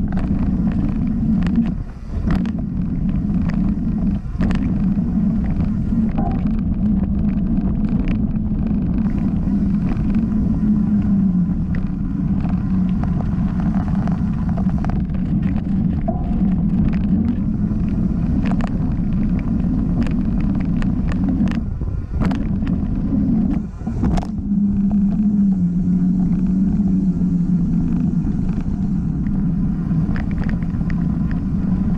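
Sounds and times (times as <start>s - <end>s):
bike rattling over bumps: 0.0s - 31.9s
bike tyres rumbling on dirt: 0.0s - 31.9s
wind on microphone: 0.0s - 31.9s.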